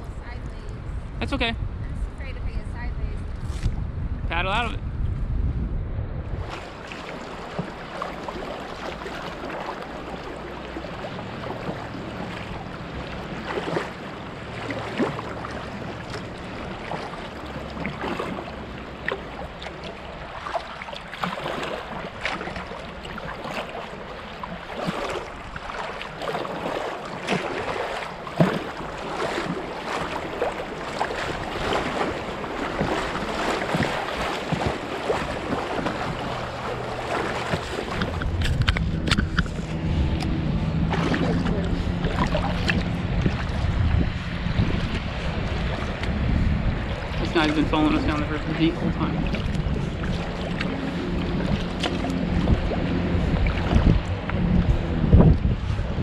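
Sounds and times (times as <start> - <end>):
small splashes: 6.4 - 54.9
river water rushing: 6.4 - 55.2.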